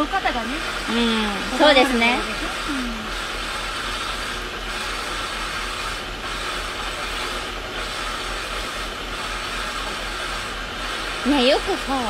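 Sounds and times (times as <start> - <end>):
grinding machine motor hum: 0.0 - 12.0.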